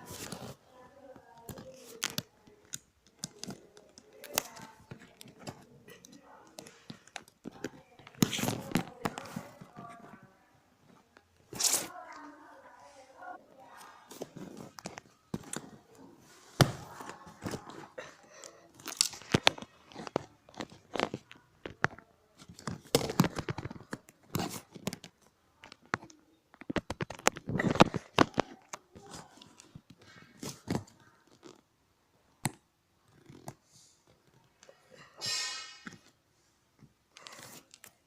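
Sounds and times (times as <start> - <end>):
rustling and crinkling: 0.0 - 31.7, 35.8 - 38.0.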